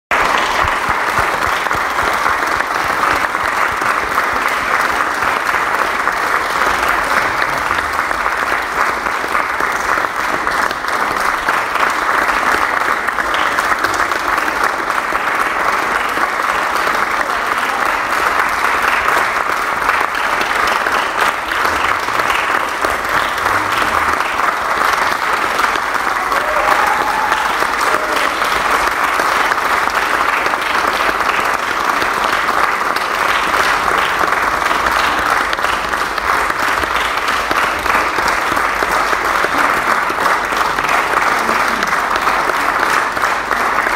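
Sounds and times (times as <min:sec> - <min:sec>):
audience clapping: 0:00.0 - 0:43.9.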